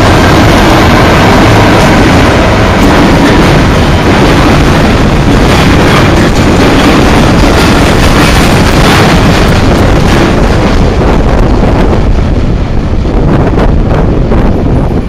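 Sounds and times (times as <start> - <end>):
train wheels on rails: 0.0 - 15.0
wind noise on microphone: 0.0 - 15.0.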